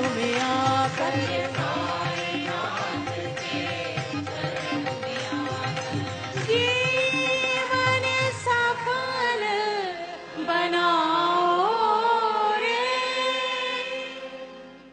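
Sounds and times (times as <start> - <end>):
woman singing devotional song: 0.0 - 14.9.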